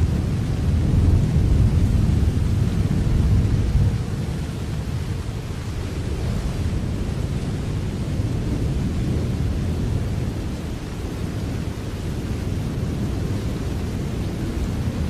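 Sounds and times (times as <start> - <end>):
heavy steady rain: 0.0 - 15.0.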